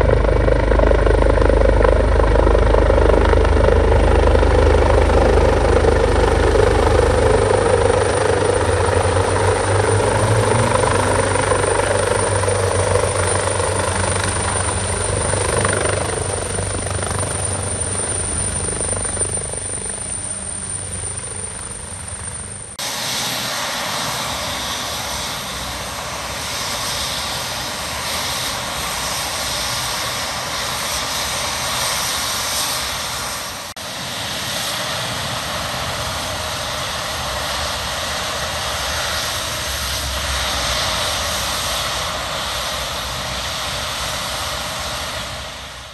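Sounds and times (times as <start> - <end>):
helicopter rotor beating: 0.0 - 45.9
helicopter turbine whine: 0.0 - 45.9.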